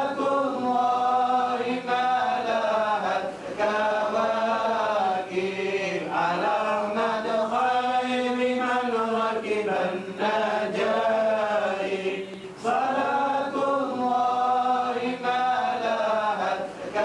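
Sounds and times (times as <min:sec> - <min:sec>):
melodic vocal chanting: 0:00.0 - 0:17.0.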